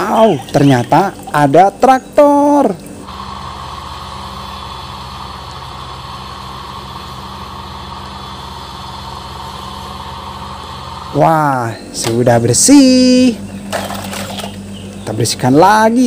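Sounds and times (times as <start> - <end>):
motor humming with hiss: 0.0 - 16.0.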